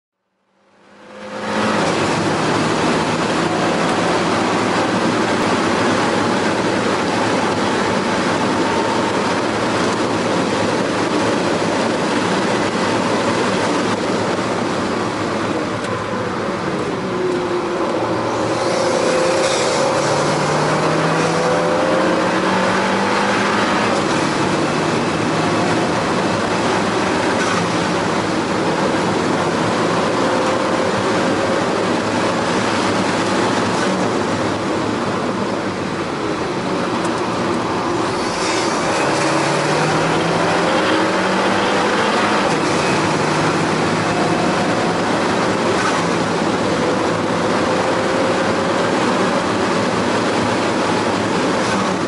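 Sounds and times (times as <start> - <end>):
road and wind noise: 0.2 - 52.0
car engine revving: 0.5 - 52.0.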